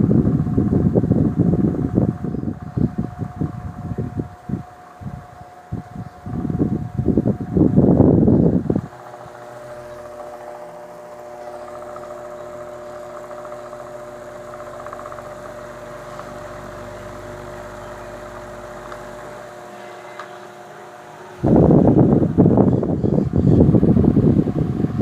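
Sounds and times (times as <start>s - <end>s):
electric fan motor humming: 0.0s - 25.0s.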